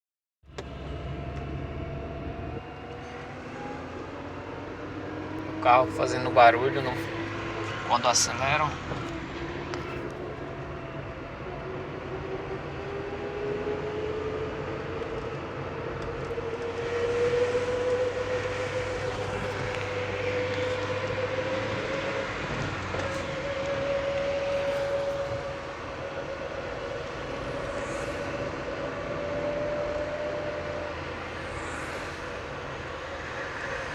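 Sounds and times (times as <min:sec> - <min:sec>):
car accelerating: 0:00.5 - 0:33.9
high-pitched whine: 0:00.5 - 0:33.9.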